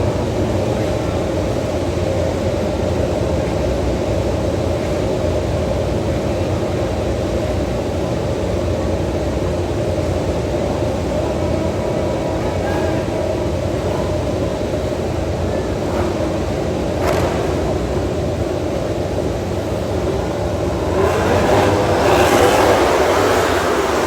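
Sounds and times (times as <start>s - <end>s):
vehicle rumble with hiss: 0.0s - 24.0s.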